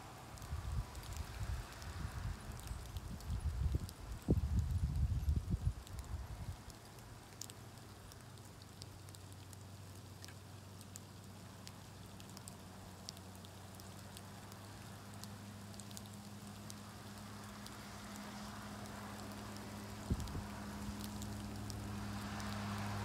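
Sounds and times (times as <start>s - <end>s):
light hiss: 0.0s - 23.0s
tiny high ticks: 0.3s - 23.0s.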